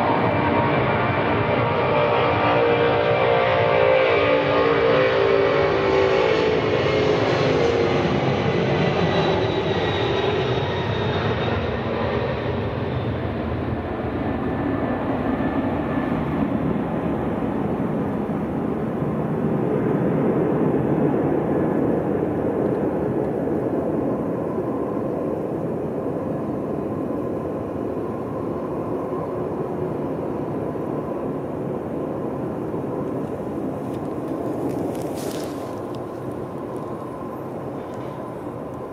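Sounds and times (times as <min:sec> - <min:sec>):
jet engine rumble: 0:00.0 - 0:38.9
jet engine whine: 0:00.0 - 0:38.9.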